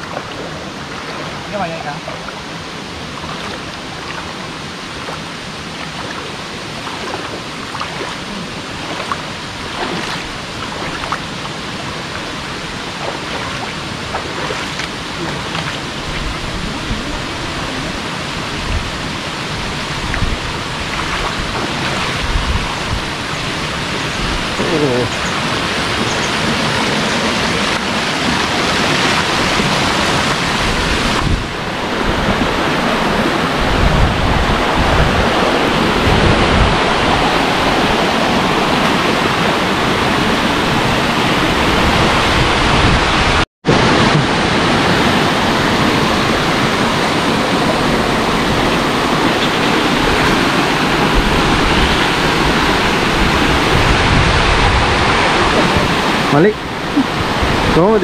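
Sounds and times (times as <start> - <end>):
waterfall and stream rushing: 0.0 - 58.0
wind buffeting microphone: 0.0 - 58.0.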